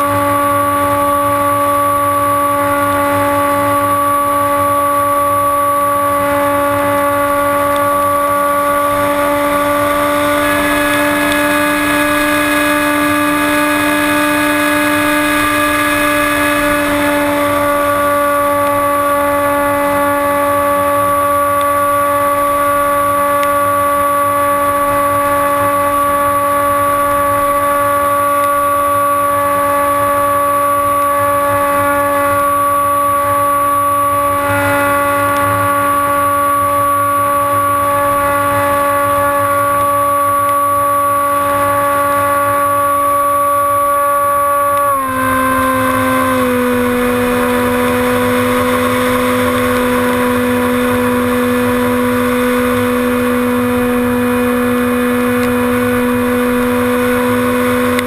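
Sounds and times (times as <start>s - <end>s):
electric motor and propeller whine: 0.0s - 58.0s.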